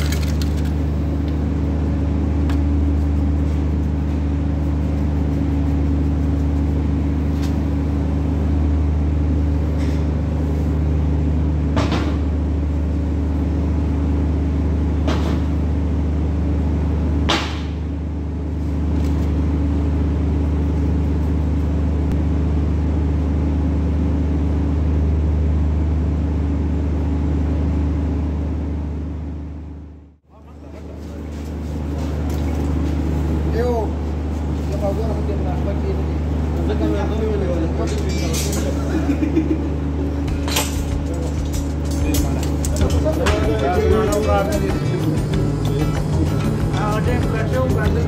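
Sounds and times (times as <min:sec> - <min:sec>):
low mechanical drone: 0:00.0 - 0:48.0.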